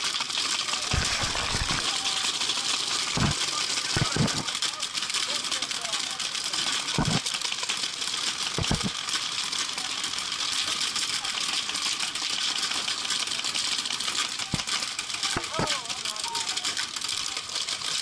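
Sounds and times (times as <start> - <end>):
paintball markers firing rapidly: 0.0 - 18.0.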